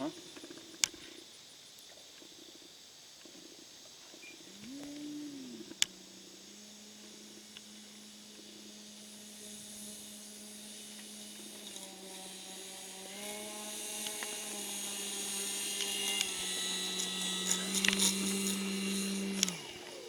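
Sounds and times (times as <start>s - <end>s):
model airplane motor buzzing: 3.2s - 20.0s.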